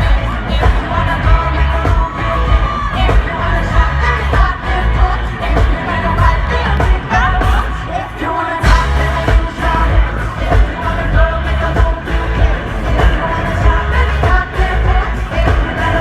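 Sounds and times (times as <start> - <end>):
pulsing bass beat: 0.0 - 8.0, 8.6 - 16.0
audience noise: 0.0 - 16.0
women singing: 0.0 - 16.0.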